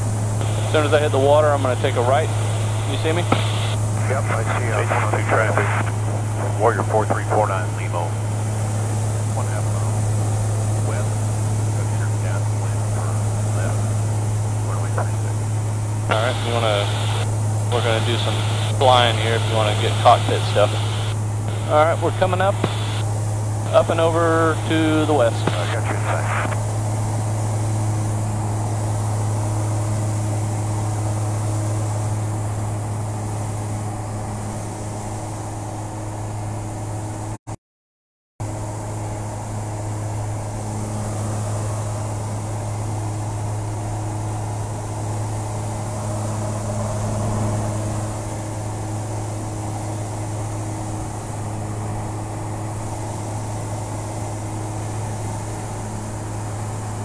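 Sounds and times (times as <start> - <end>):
aircraft engine drone in cabin: 0.0 - 37.4, 38.4 - 57.0.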